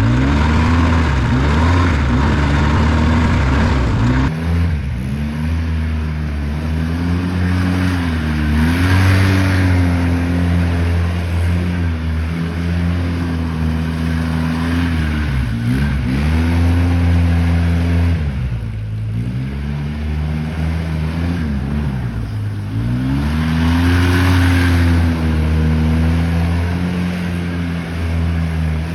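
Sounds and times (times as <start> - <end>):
atv engine revving: 0.0 - 28.9.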